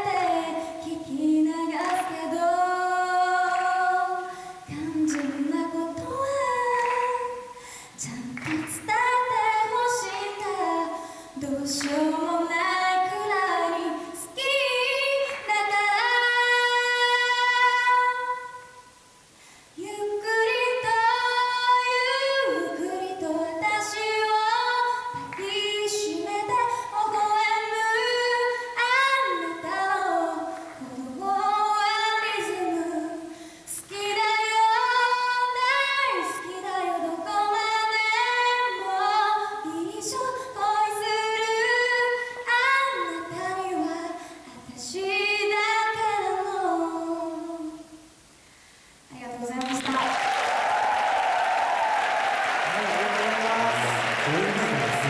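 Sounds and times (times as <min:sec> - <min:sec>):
woman singing into microphone: 0:00.0 - 0:18.8, 0:19.8 - 0:48.0.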